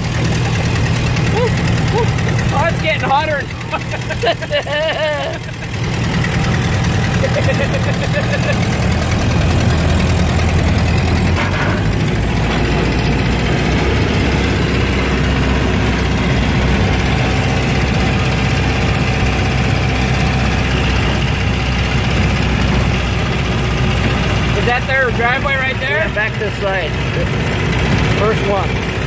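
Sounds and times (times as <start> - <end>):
car engine running: 0.0 - 29.0
road and wind noise: 0.0 - 29.0.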